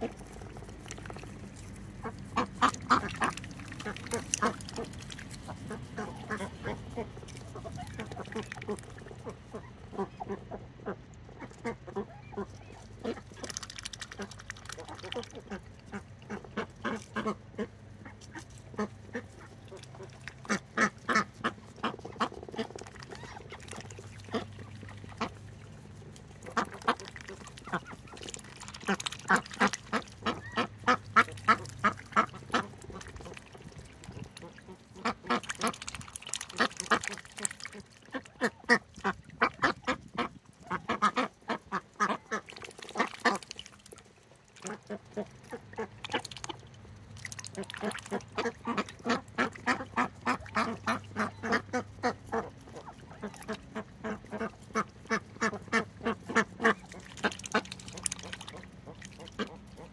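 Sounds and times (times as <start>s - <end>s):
ducks dabbling in water: 0.0s - 59.9s
ducks quacking: 0.0s - 59.9s.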